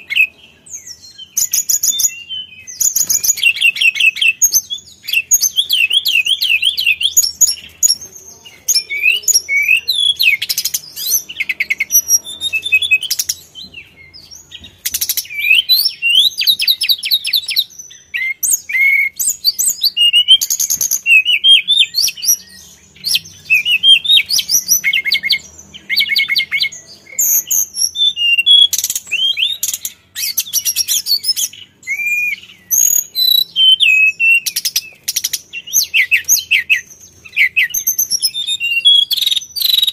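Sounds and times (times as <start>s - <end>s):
bird singing high-pitched trills: 0.0s - 39.9s.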